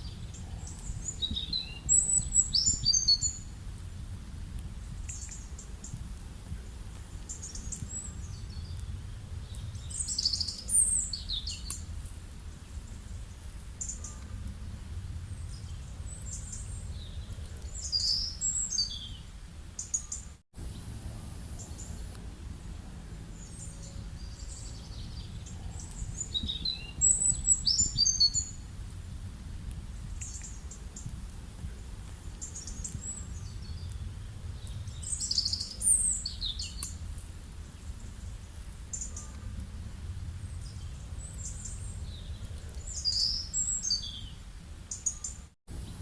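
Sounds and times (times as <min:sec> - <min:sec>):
steady low rumble: 0:00.0 - 0:19.8, 0:20.6 - 0:44.9
small birds chirping: 0:00.0 - 0:46.0.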